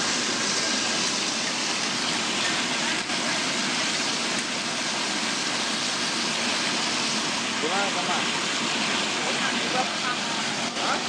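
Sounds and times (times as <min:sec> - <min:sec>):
water churning and bubbling: 0:00.0 - 0:11.0.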